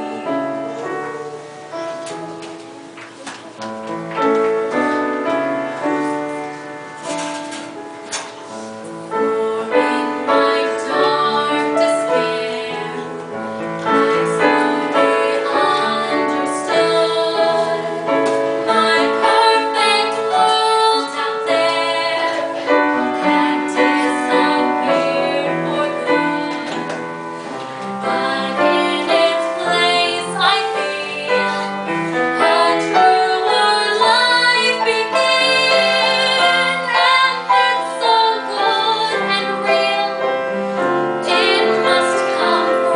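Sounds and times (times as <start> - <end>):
piano accompaniment: 0.0 - 42.9.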